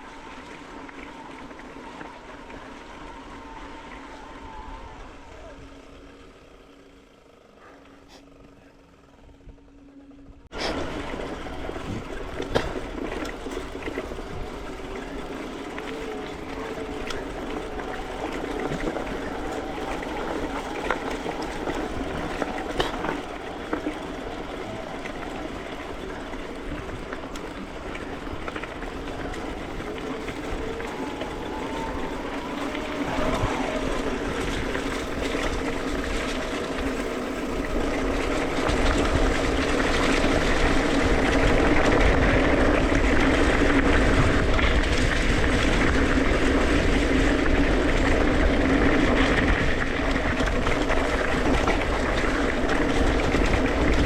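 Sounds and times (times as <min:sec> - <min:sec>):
mountain bike rolling and rattling: 0:00.0 - 0:54.0.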